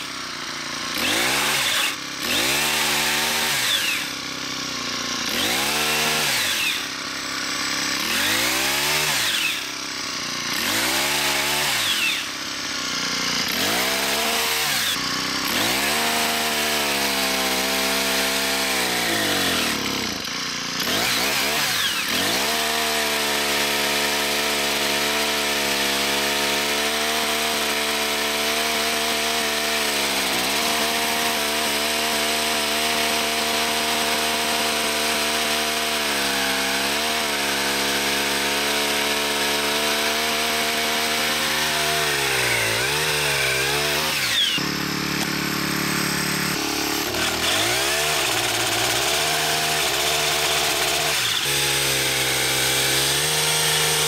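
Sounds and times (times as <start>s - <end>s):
chain saw cutting log: 0.0s - 54.0s
two-stroke engine at high revs: 0.0s - 54.0s.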